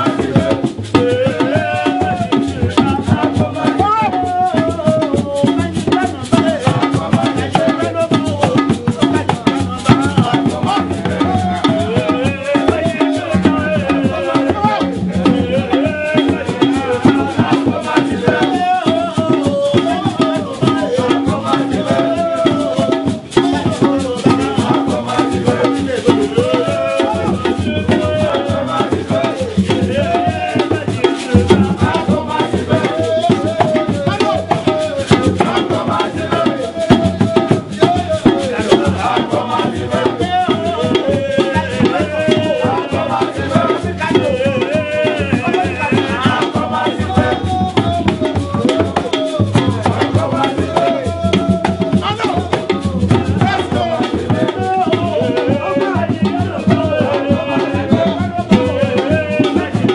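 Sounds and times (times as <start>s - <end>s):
group singing: 0.0s - 59.9s
hand drum beat: 0.0s - 59.9s
shaken rattle percussion: 0.0s - 59.9s.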